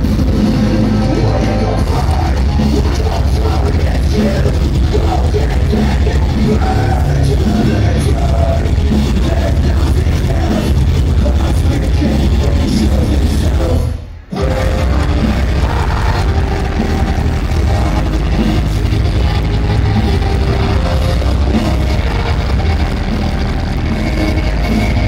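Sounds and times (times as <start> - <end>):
heavy rock band playing live: 0.0 - 25.0
yelled and sung vocals: 0.0 - 25.0.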